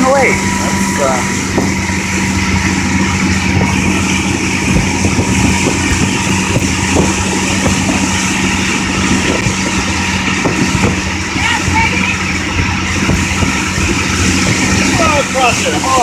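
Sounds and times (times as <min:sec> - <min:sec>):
motorboat engine running: 0:00.0 - 0:16.0
water rushing in wake: 0:00.0 - 0:16.0.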